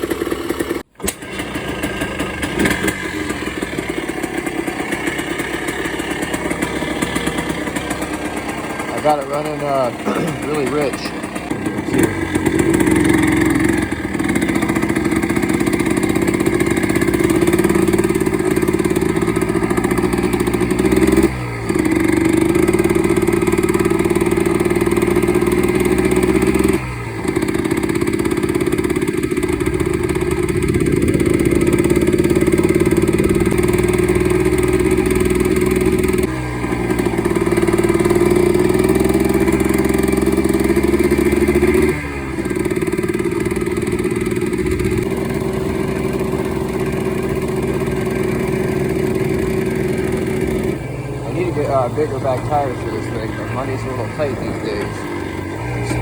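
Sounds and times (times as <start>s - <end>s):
two-stroke quad engine running hard: 0.0s - 56.0s.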